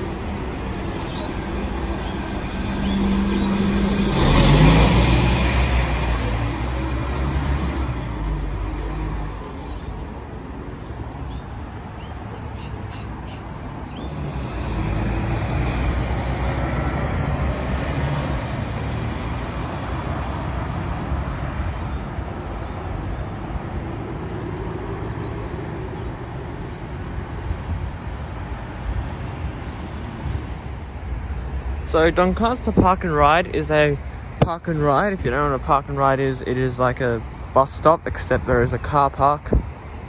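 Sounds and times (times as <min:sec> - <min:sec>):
bus engine rumbling: 0:00.0 - 0:40.0
road traffic: 0:00.0 - 0:40.0.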